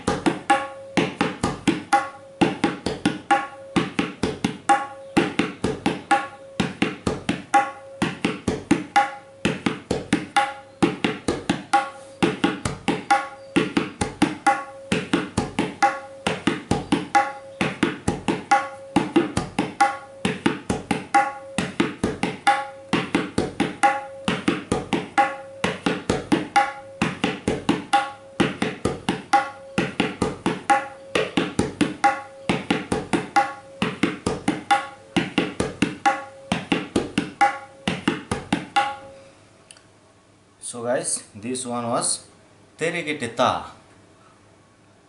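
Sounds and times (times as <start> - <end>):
tabla played fast: 0.0 - 39.2.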